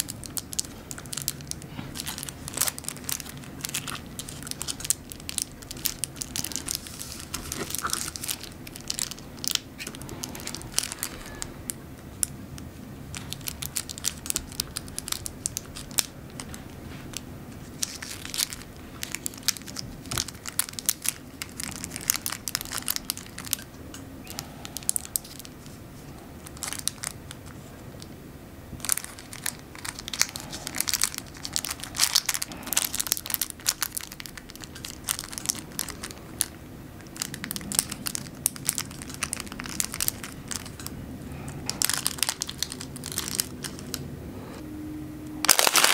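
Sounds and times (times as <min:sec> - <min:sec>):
parchment paper crinkling: 0:00.0 - 0:12.3, 0:13.1 - 0:28.1, 0:28.8 - 0:44.0, 0:45.5 - 0:45.9.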